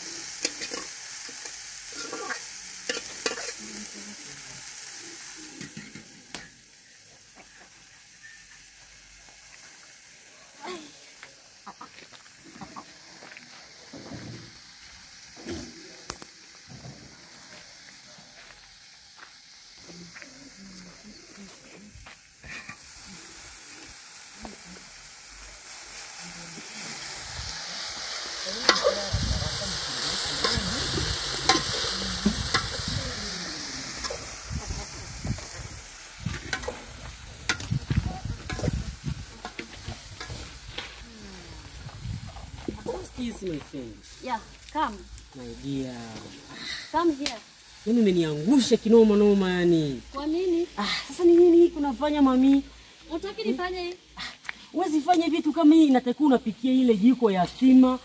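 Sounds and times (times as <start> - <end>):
cooking pot hissing and sizzling: 0.0 - 58.0.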